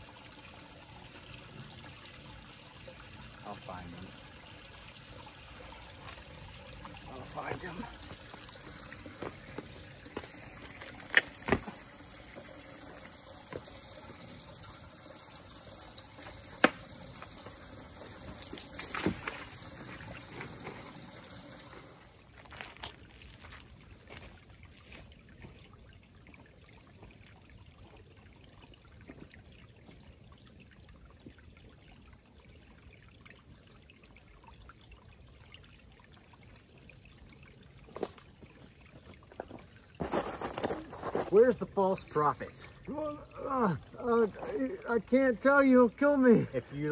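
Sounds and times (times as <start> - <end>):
creek trickling over rocks: 0.0 - 46.9.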